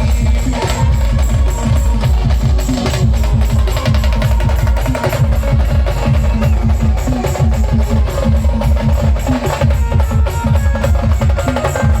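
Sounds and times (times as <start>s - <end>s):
band playing fast song: 0.0s - 12.0s
heavy rapid drumming: 0.0s - 12.0s.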